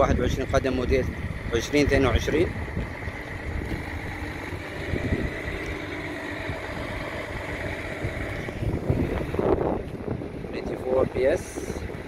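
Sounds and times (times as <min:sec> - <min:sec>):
machinery low rumble: 0:00.0 - 0:12.0.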